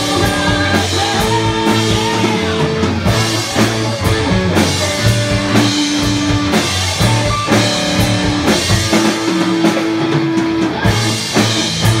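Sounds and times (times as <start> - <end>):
drum kit beat: 0.0 - 12.0
electric guitars: 0.0 - 12.0.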